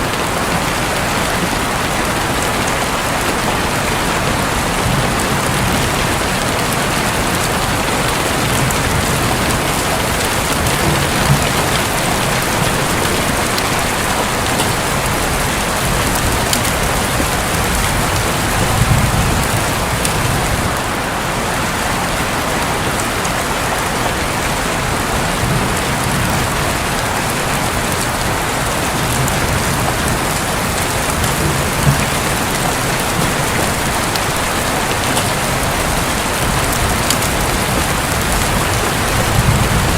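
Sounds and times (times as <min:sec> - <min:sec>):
thunder rumbling: 0:00.0 - 0:21.0, 0:24.4 - 0:39.9
heavy rain on a roof: 0:00.0 - 0:39.9.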